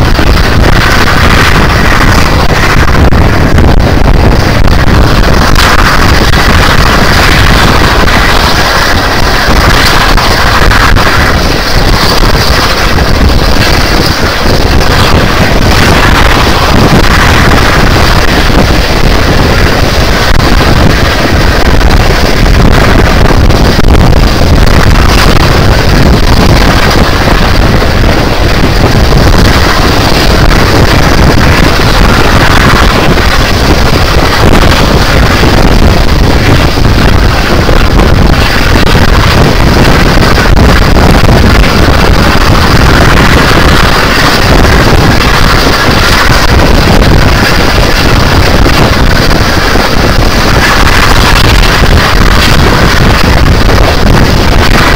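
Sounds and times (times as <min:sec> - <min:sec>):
train rumbling along tracks: 0:00.0 - 0:54.9
wind buffeting microphone: 0:00.0 - 0:54.9.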